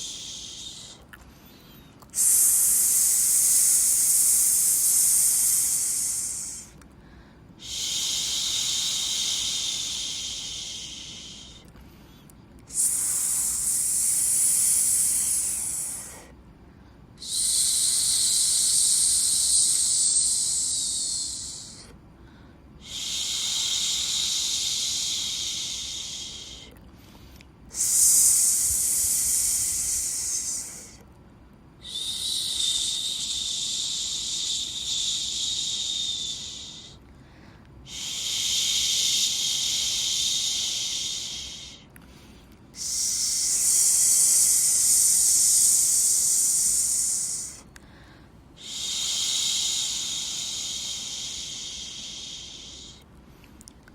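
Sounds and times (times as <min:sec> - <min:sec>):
shushing white noise: 0:00.0 - 0:53.9.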